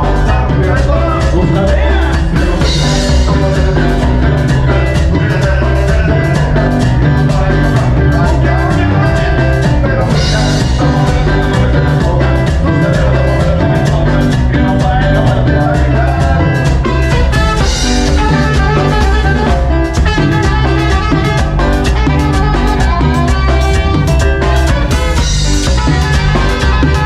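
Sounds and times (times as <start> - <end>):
cumbia band playing: 0.0 - 27.0
running bass line: 0.0 - 27.0
steady drum beat: 0.0 - 27.0.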